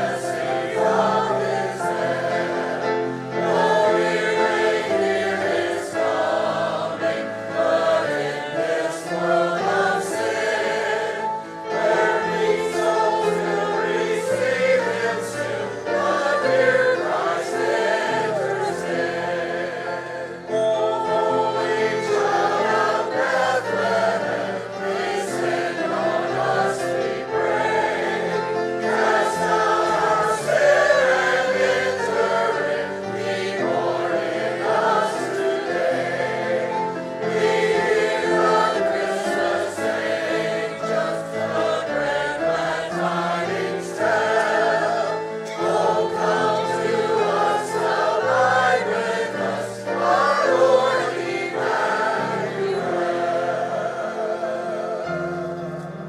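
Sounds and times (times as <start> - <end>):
congregation singing a carol: 0.0 - 56.0.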